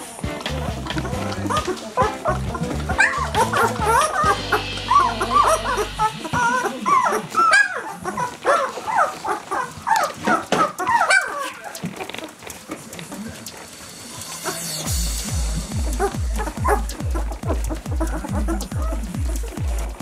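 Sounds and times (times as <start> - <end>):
puppies whimpering and squeaking: 0.0 - 20.0.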